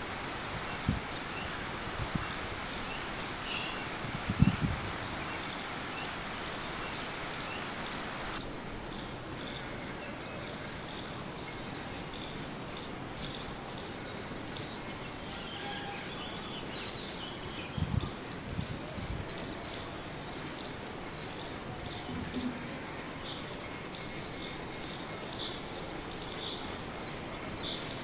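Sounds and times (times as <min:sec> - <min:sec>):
outdoor background noise: 0:00.0 - 0:28.0.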